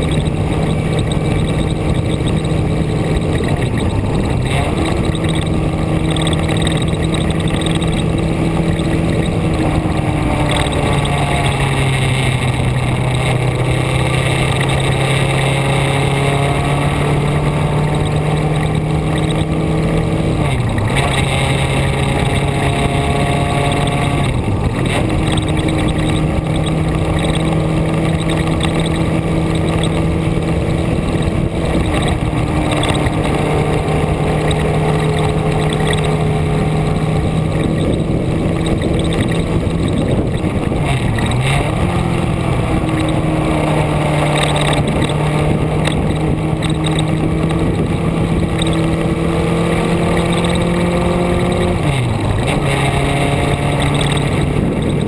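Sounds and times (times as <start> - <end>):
constant rushing noise: 0.0 - 55.0
vehicle engine running: 0.0 - 55.0.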